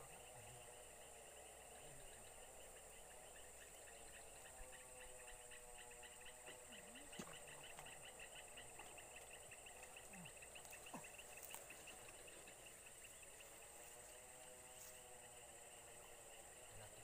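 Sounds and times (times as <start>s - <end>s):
insect pulsing chirp: 0.0s - 17.0s
insects buzzing: 0.0s - 17.0s.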